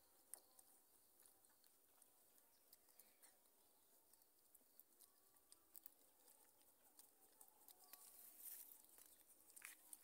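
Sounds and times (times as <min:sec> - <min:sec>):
monkeys chewing clicks: 0:00.0 - 0:10.0.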